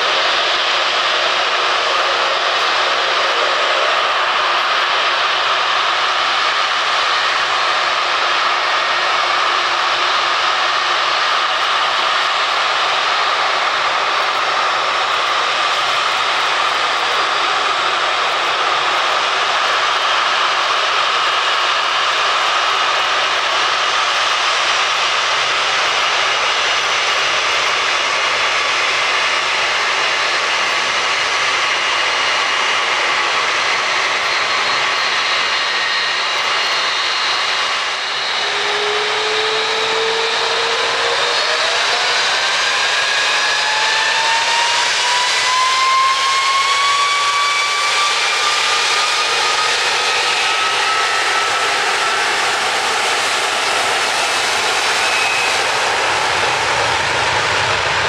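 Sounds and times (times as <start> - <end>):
high-pitched engine whine: 0.0 - 58.0
jet engines roaring: 0.0 - 58.0.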